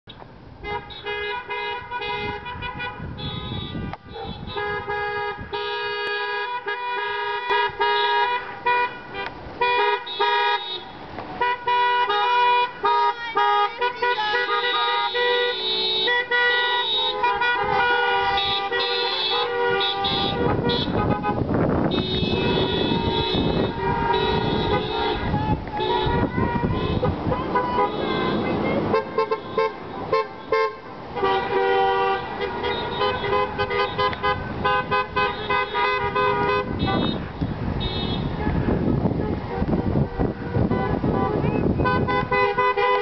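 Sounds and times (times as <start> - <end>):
car horns honking: 0.1 - 43.0
vehicle engine and tyres passing: 0.1 - 43.0.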